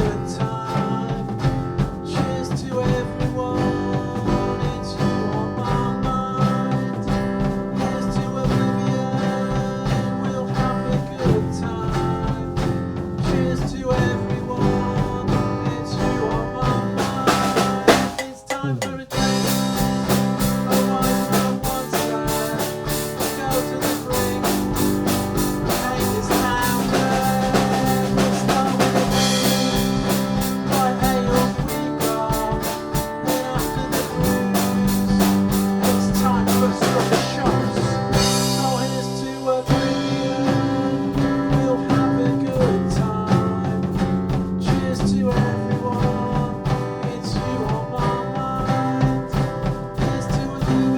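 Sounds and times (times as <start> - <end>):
drum hits: 0.0 - 50.9
rock band music: 0.0 - 50.9.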